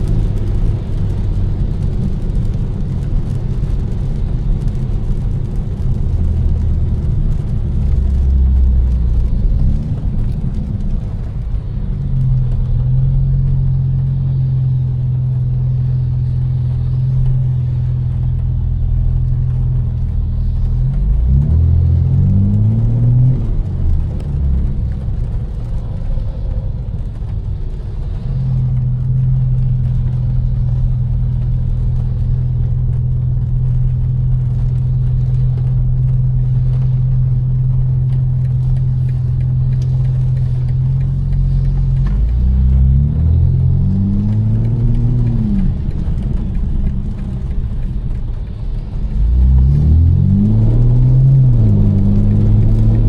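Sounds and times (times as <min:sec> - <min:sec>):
car engine droning: 0:00.0 - 0:53.0.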